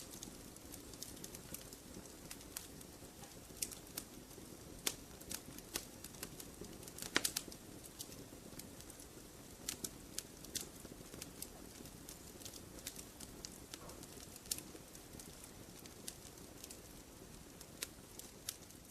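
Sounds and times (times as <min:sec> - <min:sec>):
campfire crackling and popping: 0:00.0 - 0:18.9
rush of flame: 0:00.0 - 0:18.9.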